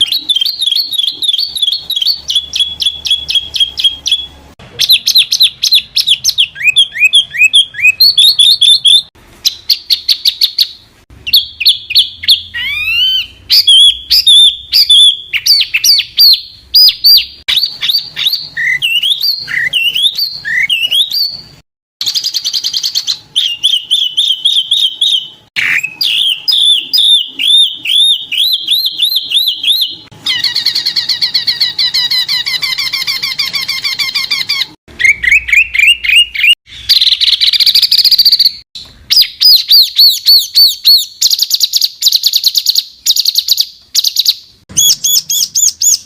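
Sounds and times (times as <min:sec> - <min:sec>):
bird rapid trill: 0:00.0 - 0:10.7, 0:11.3 - 0:46.0
songbirds chirping and whistling: 0:00.0 - 0:46.0.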